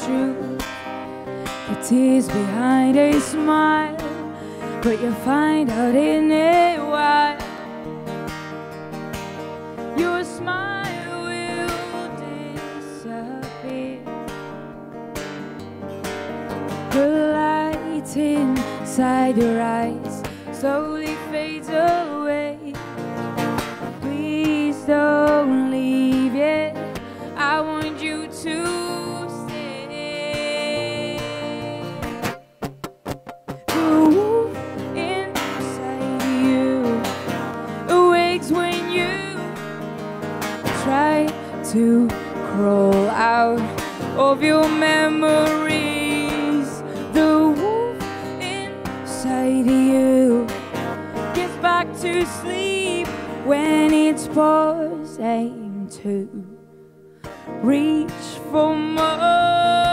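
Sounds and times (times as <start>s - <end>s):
woman singing: 0.0s - 8.3s, 9.7s - 14.8s, 16.5s - 32.5s, 33.7s - 56.7s, 57.3s - 59.9s
acoustic guitar chords: 0.0s - 59.9s.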